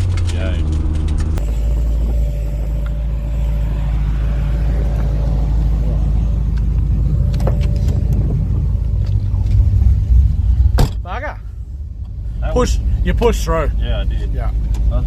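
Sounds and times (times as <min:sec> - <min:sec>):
car engine and road rumble: 0:00.0 - 0:15.0
faint steady whine: 0:01.4 - 0:15.0.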